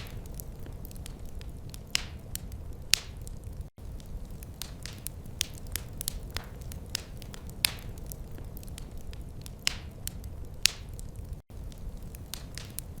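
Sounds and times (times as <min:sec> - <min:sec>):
fire popping and snapping: 0:00.0 - 0:13.0
low steady fire rumble: 0:00.0 - 0:13.0.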